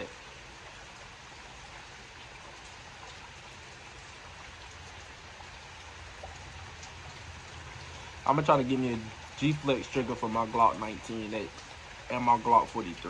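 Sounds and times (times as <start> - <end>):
faint drip ticks: 0.0 - 13.0
rain hissing: 0.0 - 13.0.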